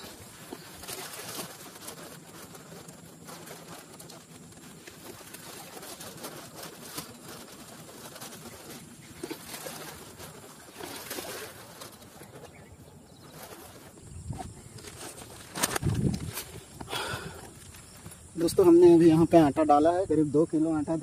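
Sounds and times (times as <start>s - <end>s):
birds calling: 0.0s - 18.4s.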